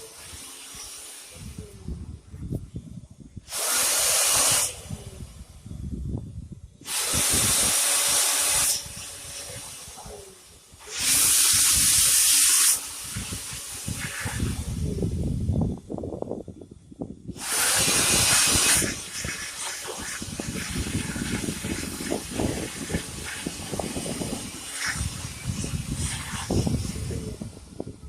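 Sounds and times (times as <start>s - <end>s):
leaf blower blasts of rushing air: 0.0s - 1.8s, 3.4s - 5.5s, 6.8s - 15.4s, 17.3s - 27.9s.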